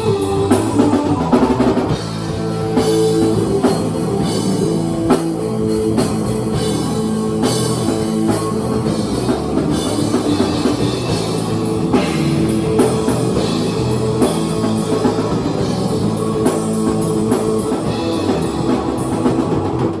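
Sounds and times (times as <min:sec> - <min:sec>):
rock band jamming: 0:00.0 - 0:20.0
sustained guitar chords: 0:00.0 - 0:20.0
drum kit hits: 0:01.6 - 0:19.9.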